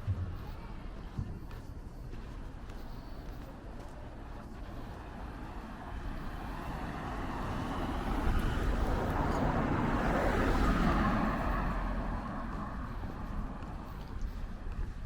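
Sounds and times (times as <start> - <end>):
road vehicle approaching: 0.0 - 15.0.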